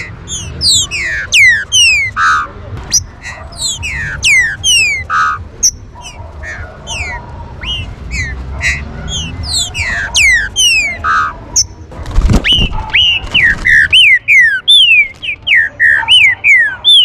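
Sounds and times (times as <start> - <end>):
bird whistling downward notes: 0.0 - 11.8, 12.4 - 17.0.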